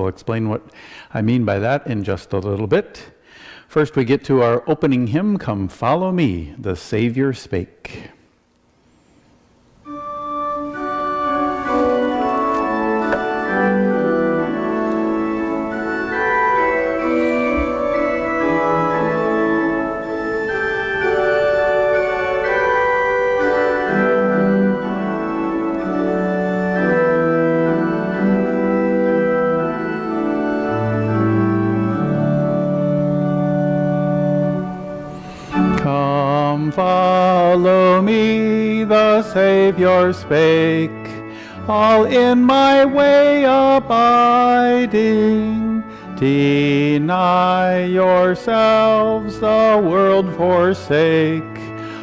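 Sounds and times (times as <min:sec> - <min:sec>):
organ playing hymn chords: 0:00.0 - 0:07.8, 0:08.7 - 0:52.0.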